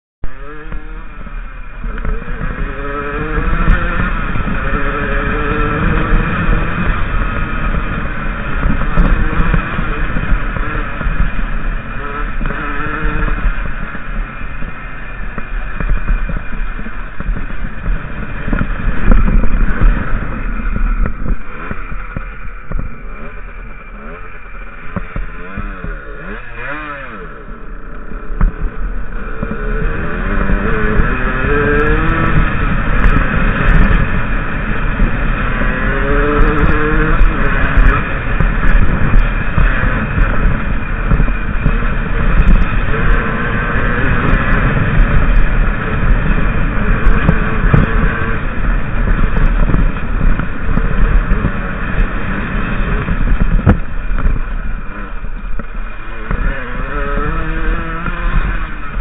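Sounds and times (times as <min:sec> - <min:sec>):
motorcycle engine revving: 0:00.2 - 0:59.0.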